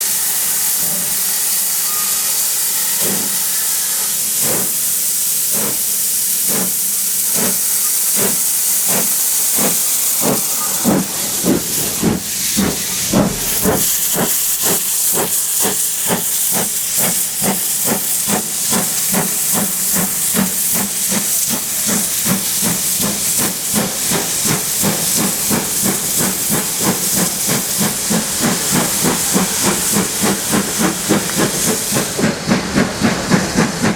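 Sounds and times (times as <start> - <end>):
steam hiss: 0.0 - 33.9
steam locomotive exhaust chuffs: 0.0 - 33.9.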